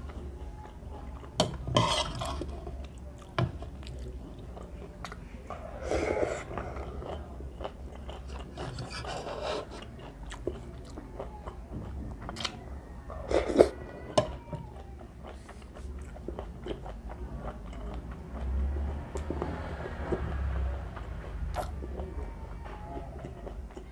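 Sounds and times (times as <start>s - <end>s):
person chewing and mouth sounds: 2.1s - 12.6s, 13.2s - 20.3s, 20.9s - 23.9s.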